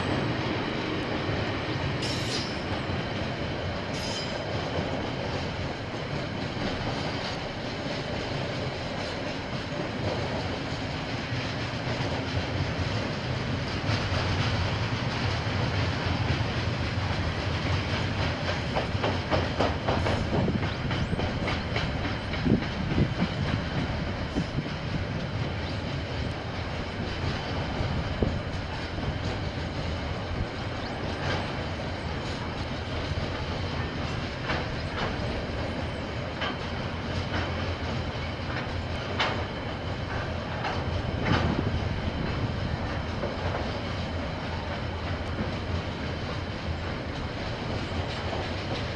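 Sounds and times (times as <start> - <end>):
train wagons rumbling: 0.0 - 48.9
wheels clicking over rail joints: 3.6 - 48.9.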